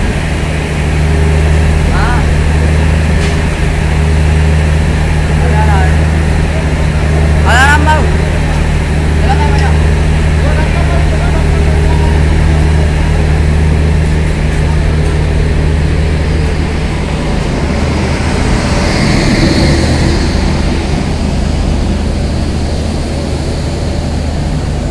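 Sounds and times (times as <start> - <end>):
cooling blowers hissing: 0.0 - 24.9
diesel generator running: 0.0 - 24.9.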